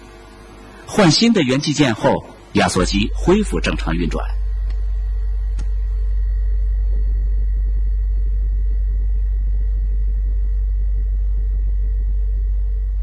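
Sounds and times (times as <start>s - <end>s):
refrigerator compressor hum: 0.0s - 13.0s.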